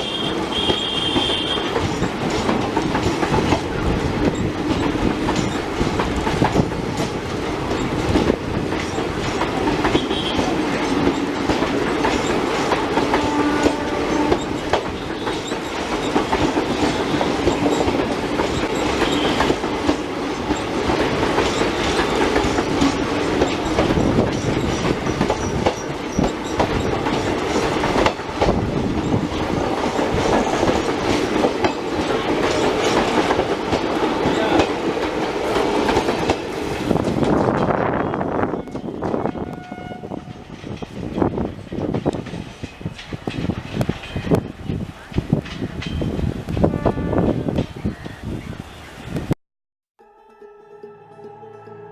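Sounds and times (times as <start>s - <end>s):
train wheels clattering: 0.0s - 46.8s.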